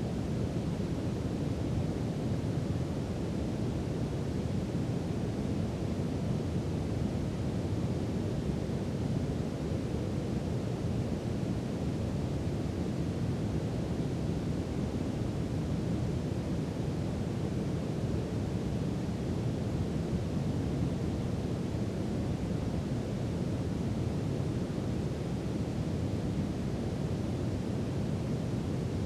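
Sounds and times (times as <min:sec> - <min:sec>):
brown noise rumble: 0:00.0 - 0:29.0.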